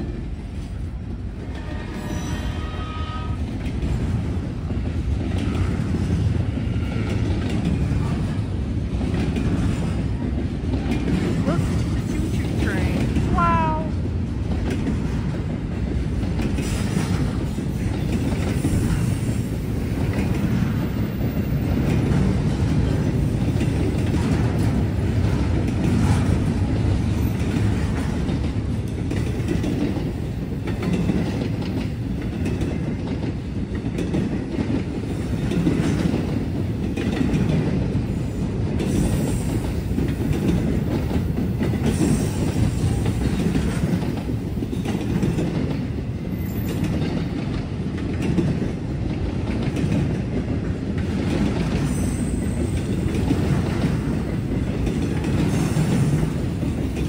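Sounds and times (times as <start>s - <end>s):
freight train rumbling past: 0.0s - 57.0s
wheels clicking on rails: 3.4s - 13.4s, 14.0s - 57.0s.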